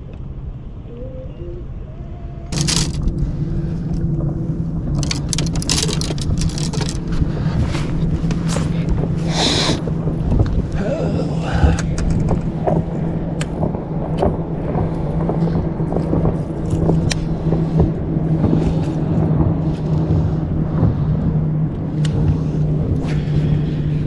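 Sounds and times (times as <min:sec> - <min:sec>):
boat motor running: 0:02.4 - 0:24.0.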